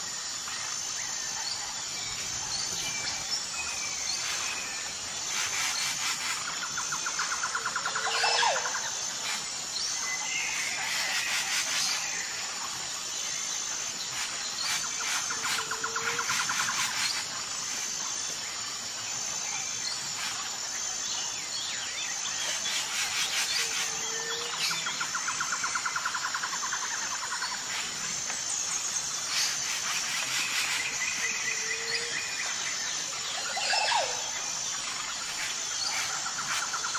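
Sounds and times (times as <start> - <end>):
birds chirping and trilling: 0.3 - 36.9.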